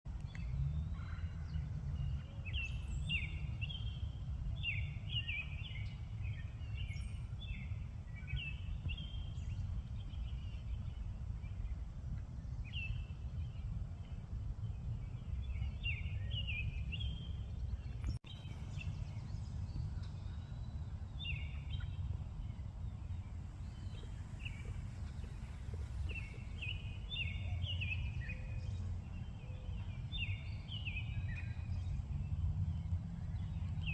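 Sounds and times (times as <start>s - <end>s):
bird chirping: 0.1s - 33.9s
low wind rumble: 0.1s - 33.9s.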